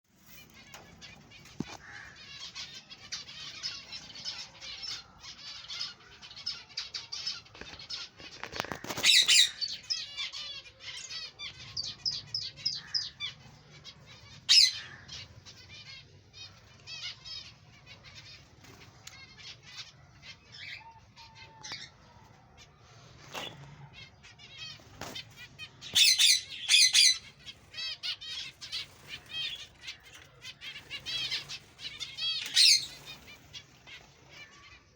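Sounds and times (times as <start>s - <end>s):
finches chirping and calling: 0.4s - 34.9s.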